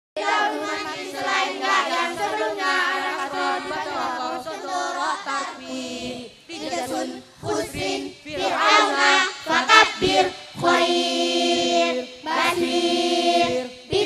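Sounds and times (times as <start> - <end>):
boys chanting in unison: 0.2 - 14.0.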